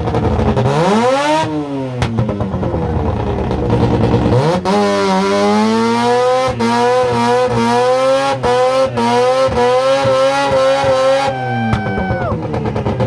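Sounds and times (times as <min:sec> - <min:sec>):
rotary engine revving hard: 0:00.0 - 0:11.4.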